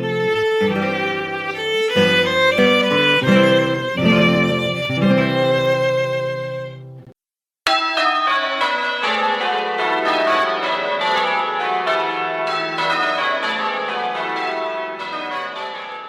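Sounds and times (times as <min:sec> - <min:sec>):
peal of bells ringing: 0:00.0 - 0:06.8, 0:07.7 - 0:16.0.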